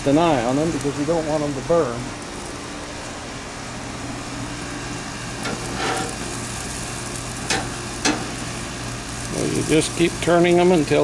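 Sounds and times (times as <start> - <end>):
hot dogs sizzling on a grill: 0.0 - 11.0.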